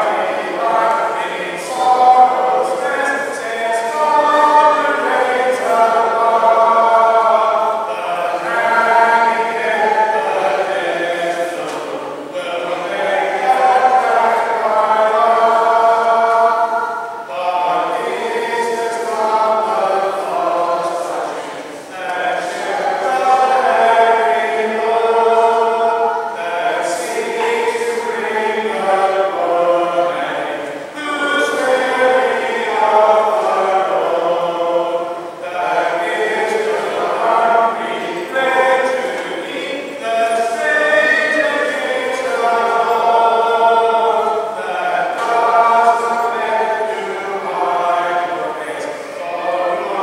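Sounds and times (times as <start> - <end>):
congregation singing: 0.0 - 50.0.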